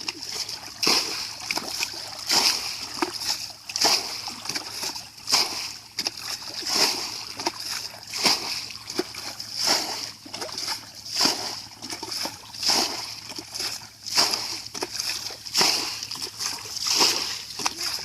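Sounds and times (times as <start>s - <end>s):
water splashing: 0.0s - 18.0s.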